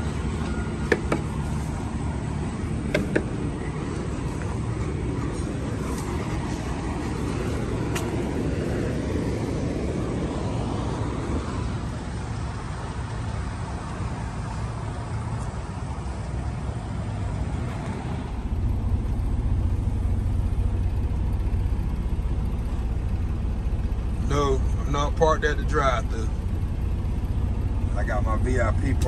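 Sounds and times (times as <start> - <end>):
diesel truck engine running: 0.0 - 29.0
road and wind noise: 0.0 - 29.0.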